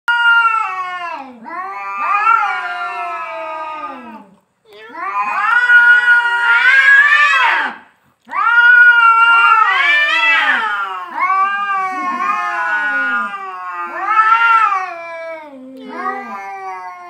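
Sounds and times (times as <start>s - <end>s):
cats yowling: 0.1s - 17.0s.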